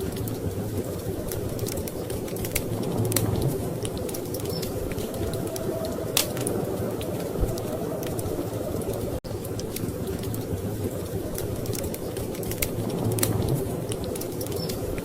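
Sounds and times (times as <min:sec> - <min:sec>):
storm wind rushing: 0:00.0 - 0:15.0
wood fire crackling and popping: 0:00.0 - 0:15.0.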